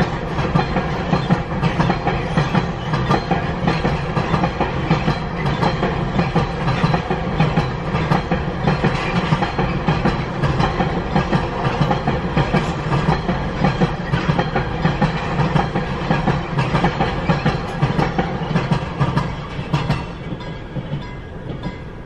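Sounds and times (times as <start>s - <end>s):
train wheels clattering over rail joints: 0.0s - 22.0s.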